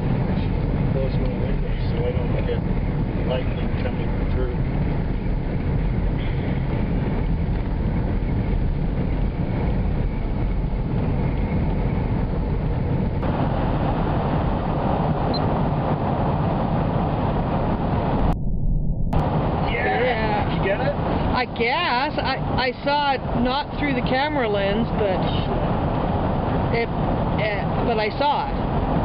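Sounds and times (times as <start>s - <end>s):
road and engine noise in car: 0.0s - 18.4s, 19.2s - 29.0s.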